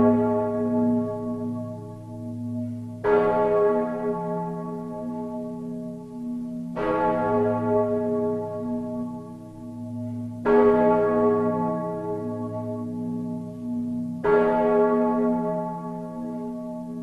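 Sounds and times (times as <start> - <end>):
deep church bell tolling: 0.0 - 17.0.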